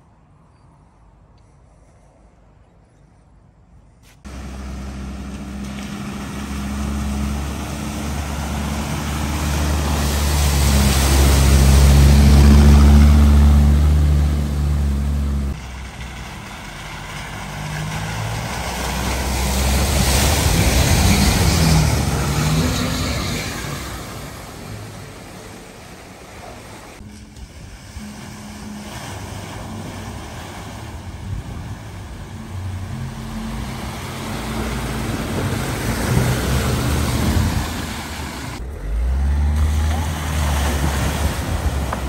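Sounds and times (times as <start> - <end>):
vehicle engine low hum: 1.3 - 42.0
water rushing and spraying: 4.2 - 42.0.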